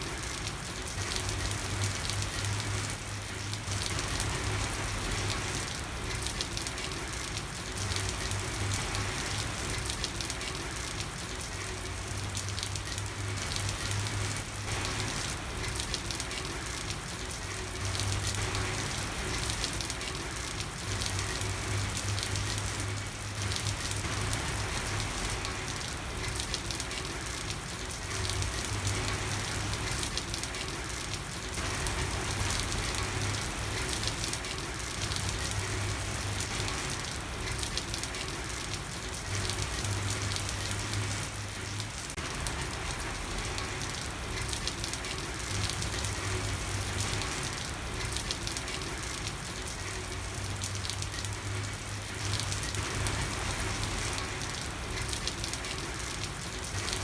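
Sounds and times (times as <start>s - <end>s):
rain pattering on street: 0.0s - 57.0s.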